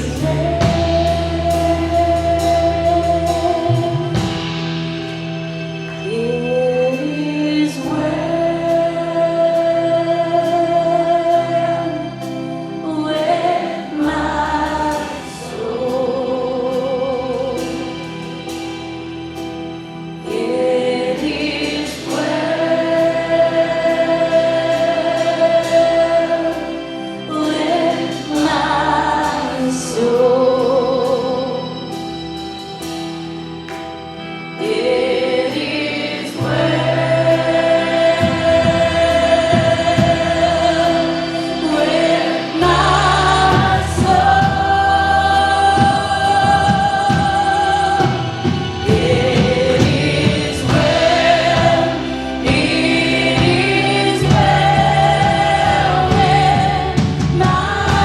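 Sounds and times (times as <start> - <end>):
bass and drums: 0.0 - 35.7, 36.4 - 58.0
worship band and singers: 0.0 - 58.0.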